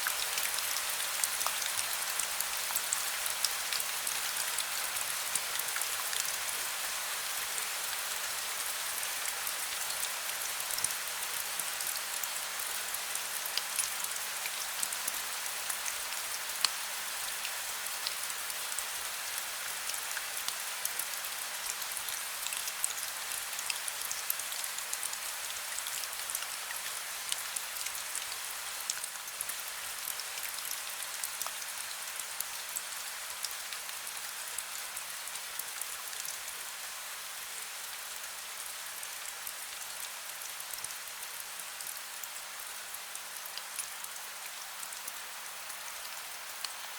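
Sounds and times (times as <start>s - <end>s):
rain drops on hard surface: 0.0s - 46.9s.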